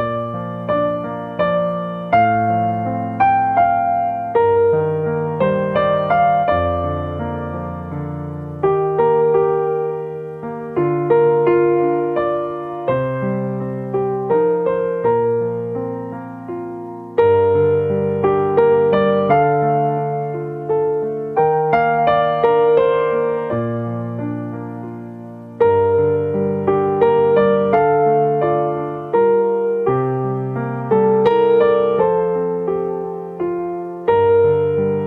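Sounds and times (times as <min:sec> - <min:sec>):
slow solo piano piece: 0:00.0 - 0:35.0.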